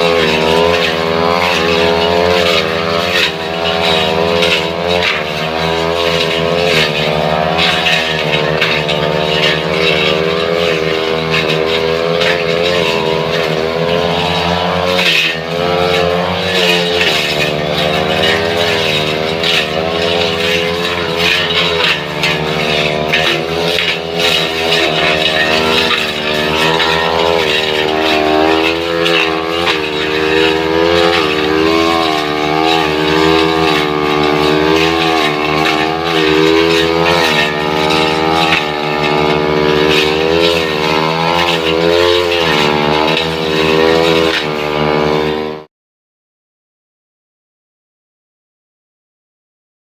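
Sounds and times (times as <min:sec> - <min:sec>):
brush cutter engine at high revs: 0:00.0 - 0:45.7.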